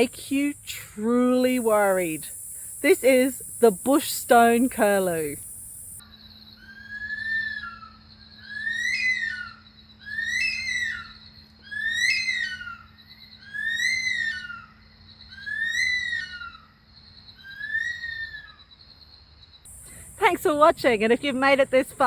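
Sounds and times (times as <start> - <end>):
high insect trill: 0.0 - 6.7, 7.6 - 22.0.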